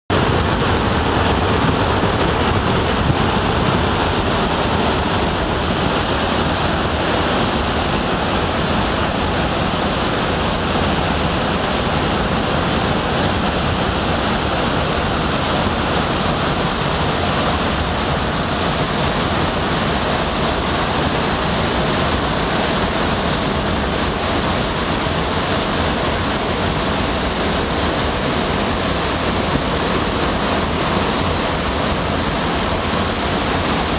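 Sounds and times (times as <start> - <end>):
waterfall rushing over boulders: 0.1 - 33.9.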